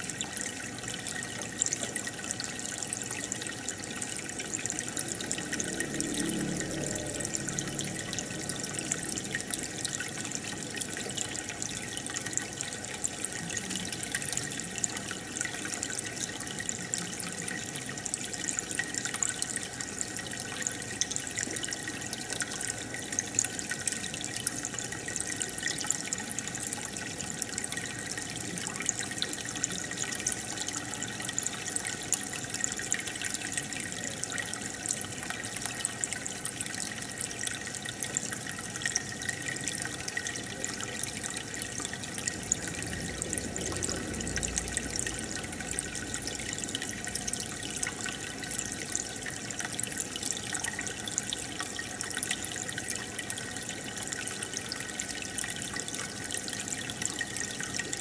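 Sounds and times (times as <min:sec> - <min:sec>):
aquarium water bubbling: 0:00.0 - 0:58.0.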